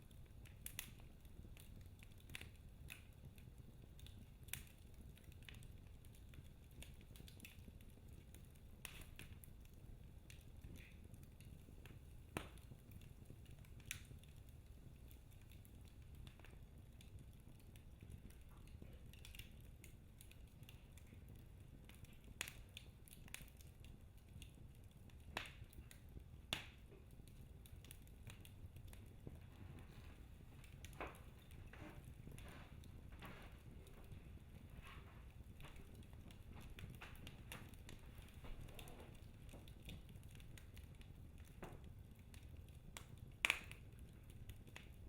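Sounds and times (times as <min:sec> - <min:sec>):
logs crackling in fireplace: 0:00.0 - 0:45.0
low rumble of flames: 0:00.0 - 0:45.0
sharp pops of burning wood: 0:00.0 - 0:45.0.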